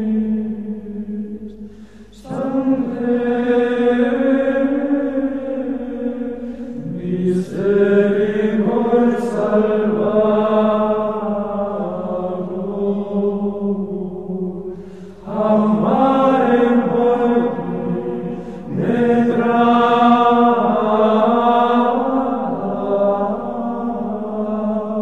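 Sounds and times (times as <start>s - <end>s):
slow vocal chant: 0.0s - 25.0s.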